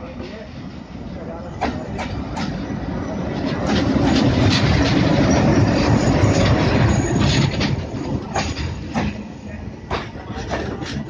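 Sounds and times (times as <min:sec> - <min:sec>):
diesel locomotive engine: 0:00.0 - 0:11.0
train wheels clicking over rail joints: 0:01.5 - 0:11.0.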